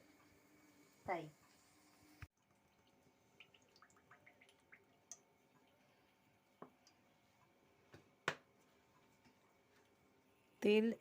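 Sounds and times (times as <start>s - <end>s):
faint kitchen ticks and pops: 1.0s - 10.0s.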